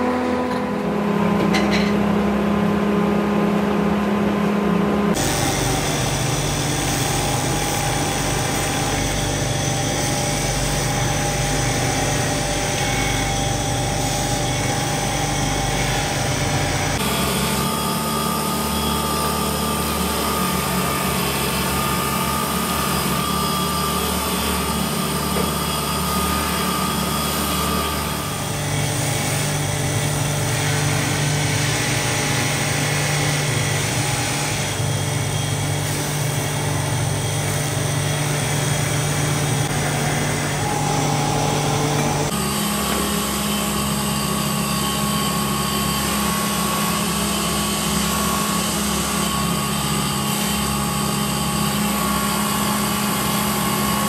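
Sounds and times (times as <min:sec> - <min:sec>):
buffing wheel motor hum: 0:05.1 - 0:54.0.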